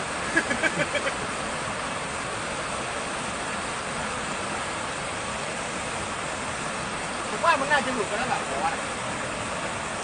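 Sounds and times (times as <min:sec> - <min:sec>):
storm hiss: 0:00.0 - 0:10.0.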